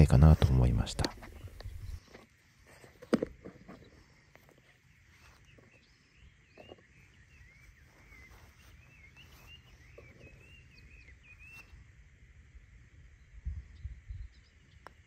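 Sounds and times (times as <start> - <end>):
small bird singing: 0.6 - 2.9, 3.5 - 12.0, 12.6 - 15.0.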